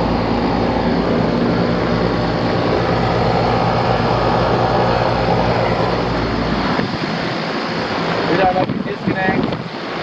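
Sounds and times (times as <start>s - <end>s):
compressor hum: 0.0s - 10.0s
condenser fan rushing: 0.0s - 10.0s.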